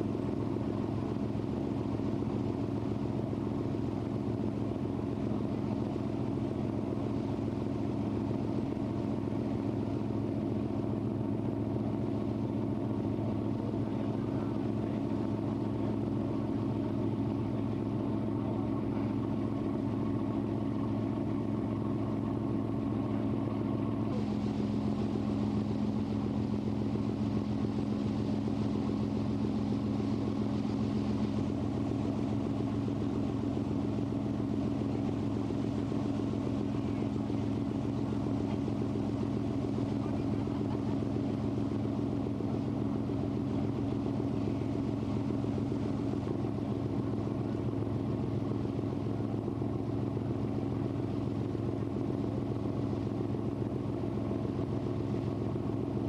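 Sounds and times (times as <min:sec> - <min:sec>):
boat engine drone: 0:00.0 - 0:56.0
water and wind noise: 0:00.0 - 0:56.0.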